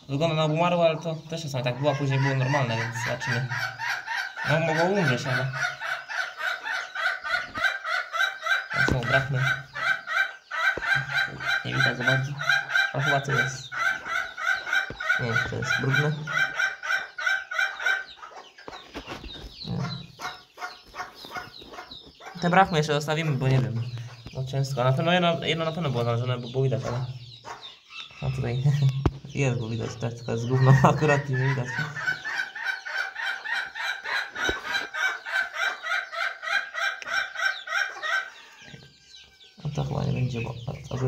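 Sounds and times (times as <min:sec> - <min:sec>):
hens clucking: 0:00.0 - 0:41.0.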